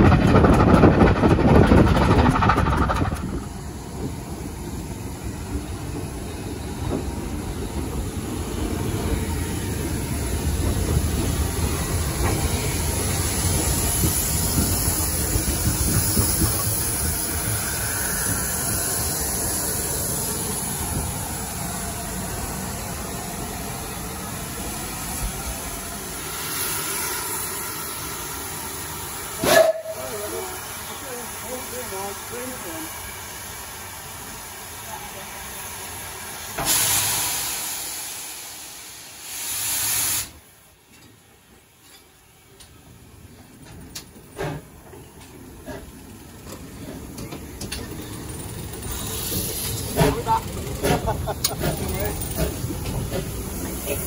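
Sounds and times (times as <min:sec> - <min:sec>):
steam locomotive hissing: 0:00.0 - 0:40.7, 0:42.2 - 0:54.0.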